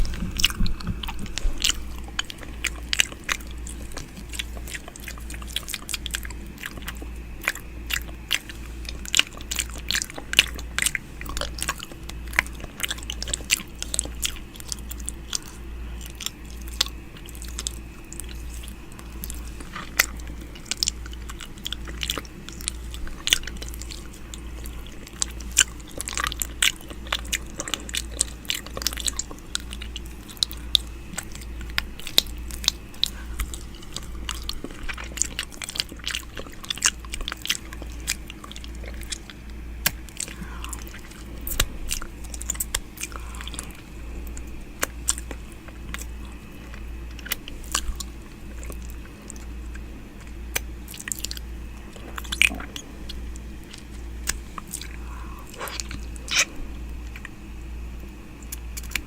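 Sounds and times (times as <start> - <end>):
wet mouth clicks and smacks: 0.0 - 57.4, 58.0 - 59.0
low pulsing hum: 0.0 - 59.0.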